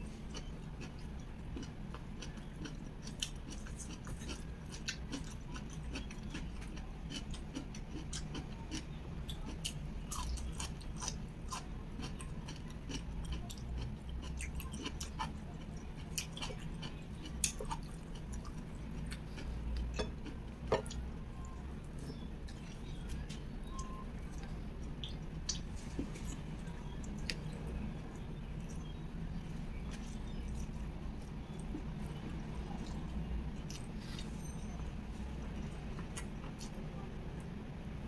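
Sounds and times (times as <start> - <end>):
steady low hum: 0.0 - 38.0
wet mouth clicks and chewing: 0.3 - 29.0, 29.8 - 34.4.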